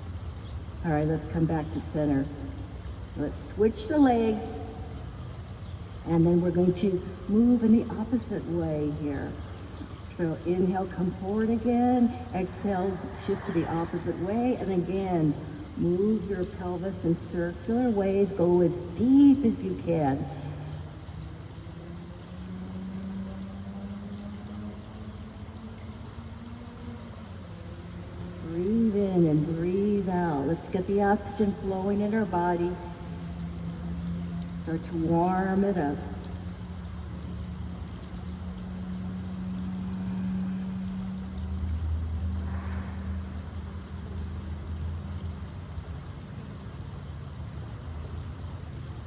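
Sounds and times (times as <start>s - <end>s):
low motor drone: 0.8s - 49.0s.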